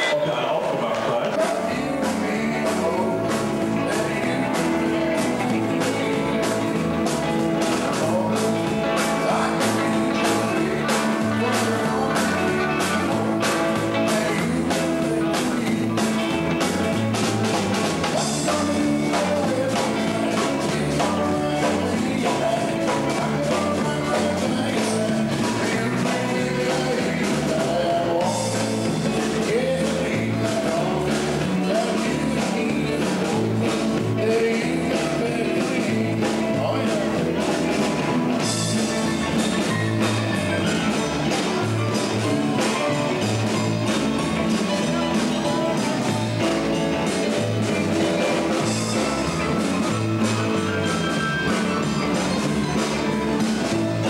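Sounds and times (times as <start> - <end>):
electric guitars: 0.0 - 54.0
man singing: 0.0 - 54.0
drum beat: 0.6 - 54.0.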